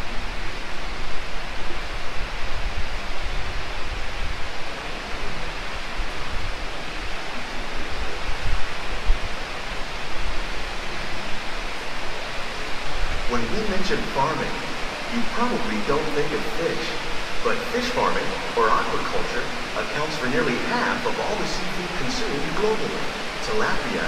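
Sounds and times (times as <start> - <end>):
water rushing along flume: 0.0 - 24.0.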